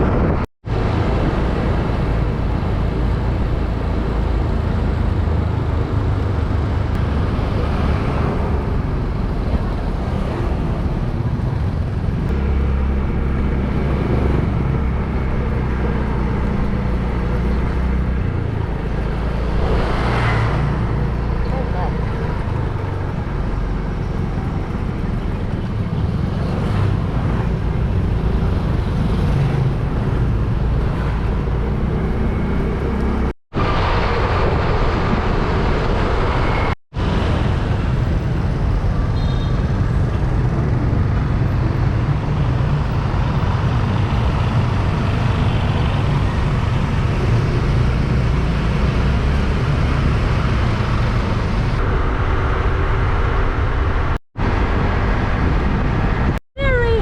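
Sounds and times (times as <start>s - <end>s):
wind rumble on microphone: 0.0s - 56.4s
road noise: 0.0s - 57.0s.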